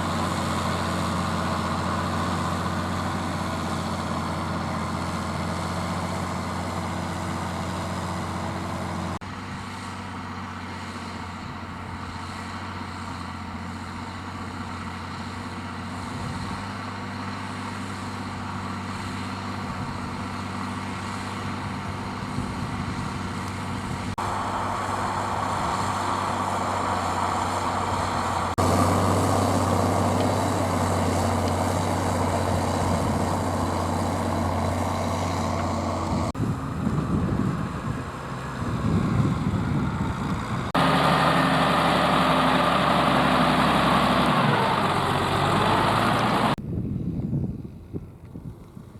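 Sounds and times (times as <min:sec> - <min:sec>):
tractor diesel engine under load: 0:00.0 - 0:46.6.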